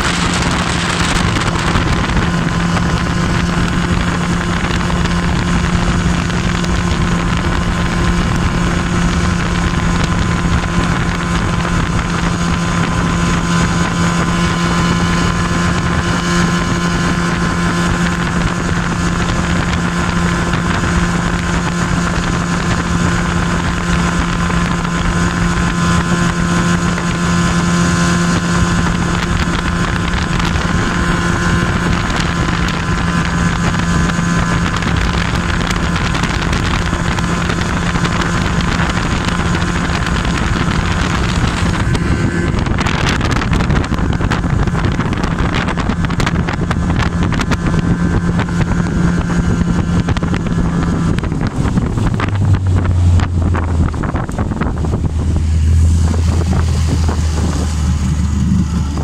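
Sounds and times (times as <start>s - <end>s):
outboard motor running: 0.0s - 59.0s
water rushing past: 0.0s - 59.0s
wind on microphone: 0.0s - 59.0s.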